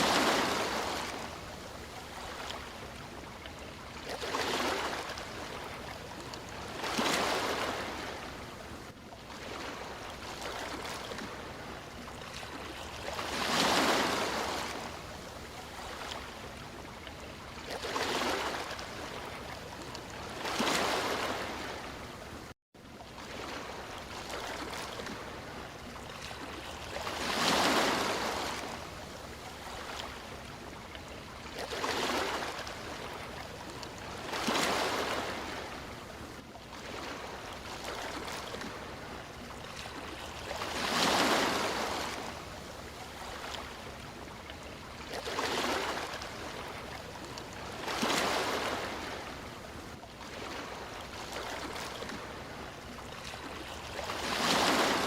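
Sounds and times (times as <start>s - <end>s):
sea waves washing onto shore: 0.0s - 16.5s, 23.2s - 49.6s, 50.2s - 55.0s.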